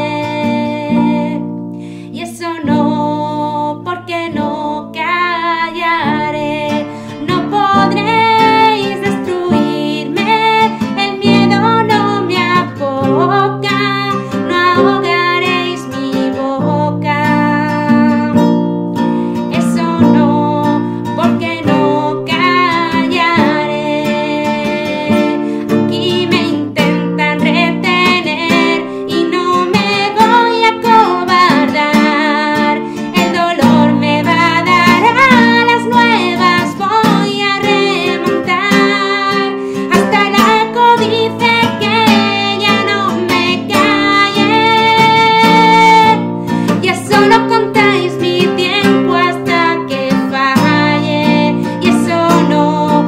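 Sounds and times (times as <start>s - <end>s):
guitar strumming: 0.0s - 53.0s
woman singing: 0.0s - 53.0s.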